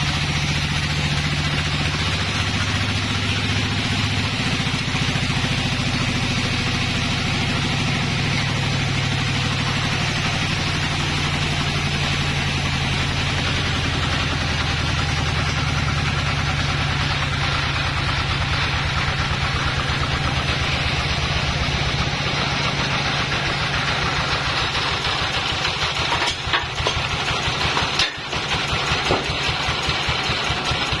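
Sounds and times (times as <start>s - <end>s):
band sawmill drone: 0.0s - 31.0s.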